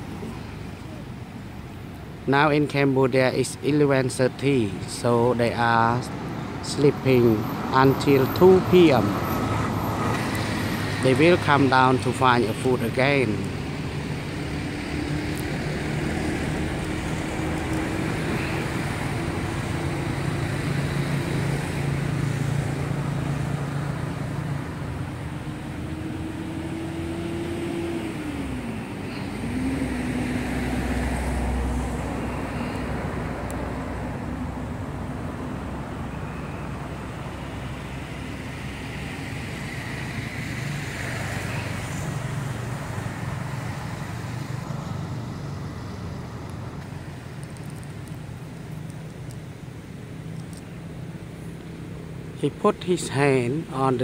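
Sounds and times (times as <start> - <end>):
engine drone: 0.0 - 54.0
vehicles driving by: 0.0 - 54.0.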